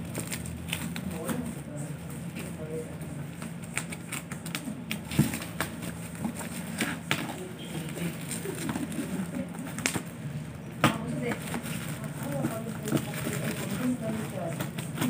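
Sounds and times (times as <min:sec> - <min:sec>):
plastic wrapping crinkling and tearing: 0:00.0 - 0:01.6, 0:02.2 - 0:10.3, 0:11.0 - 0:15.0
scissors cutting plastic: 0:00.0 - 0:01.6, 0:03.3 - 0:10.2, 0:11.0 - 0:15.0.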